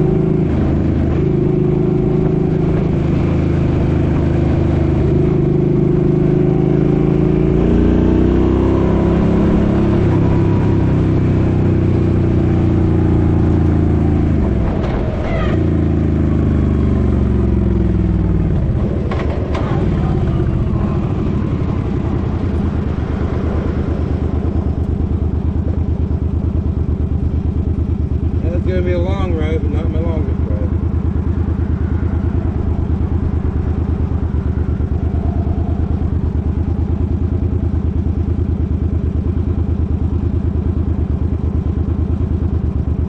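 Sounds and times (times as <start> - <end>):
motorcycle engine running: 0.0 - 43.0
vehicles passing by: 0.0 - 43.0.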